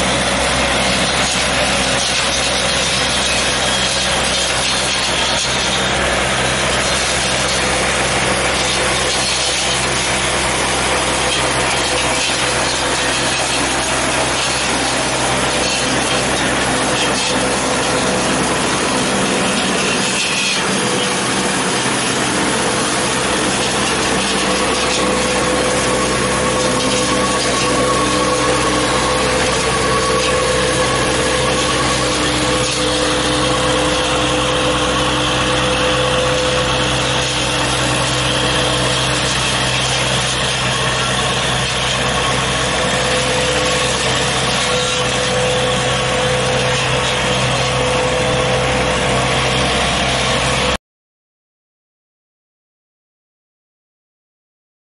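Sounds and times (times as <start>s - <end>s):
spinning blades cutting branches: 0.0s - 48.3s
tractor engine: 0.0s - 50.8s.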